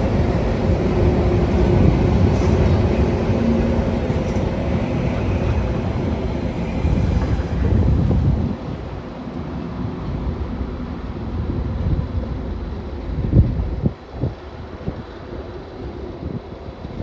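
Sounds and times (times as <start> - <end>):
wind buffeting microphone: 0.0 - 9.2, 9.9 - 17.0
electric locomotives rumbling: 0.0 - 17.0.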